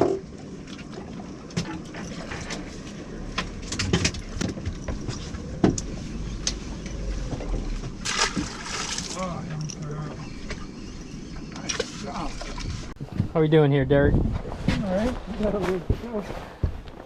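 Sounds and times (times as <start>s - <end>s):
steady low rumble: 0.0s - 17.0s
wind: 0.0s - 17.0s.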